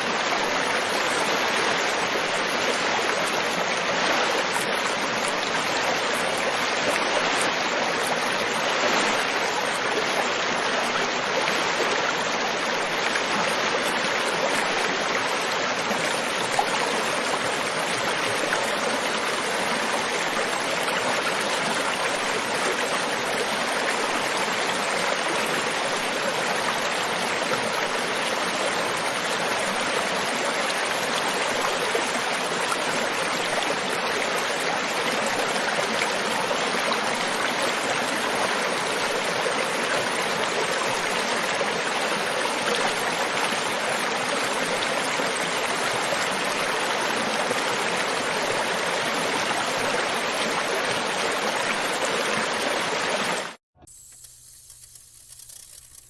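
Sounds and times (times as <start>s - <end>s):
river water flowing over rocks: 0.0s - 53.6s.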